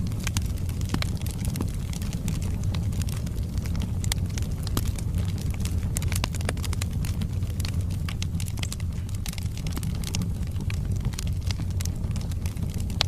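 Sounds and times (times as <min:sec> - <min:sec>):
burning logs crackling and popping: 0:00.0 - 0:13.0
low rumble of flames: 0:00.0 - 0:13.0.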